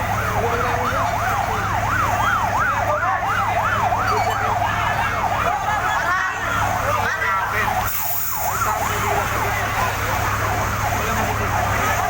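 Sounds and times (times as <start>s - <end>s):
fire truck siren yelping: 0.0s - 12.0s.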